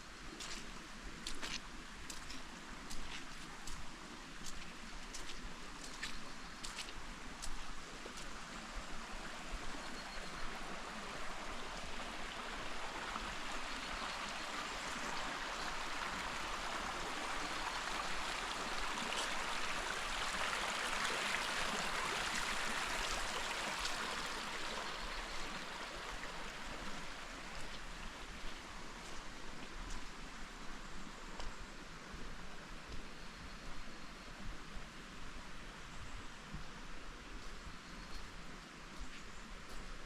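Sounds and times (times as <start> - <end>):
creek water splashing over rocks: 0.0 - 33.0.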